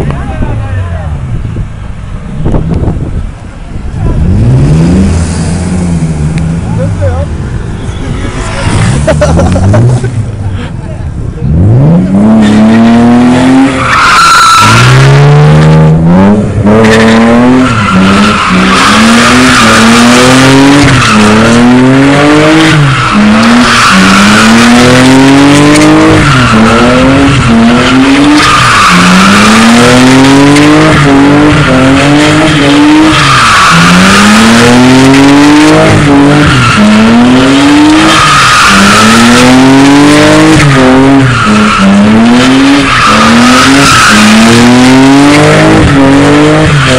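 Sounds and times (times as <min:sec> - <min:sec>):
car engine revving: 0:00.0 - 0:46.9
tyres squealing and skidding: 0:04.2 - 0:10.8, 0:11.4 - 0:46.9.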